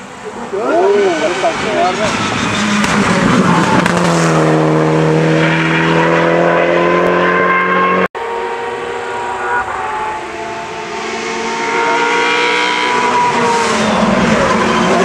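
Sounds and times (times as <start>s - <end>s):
race car engine at high revs: 0.0s - 15.0s
second racing engine: 0.0s - 15.0s.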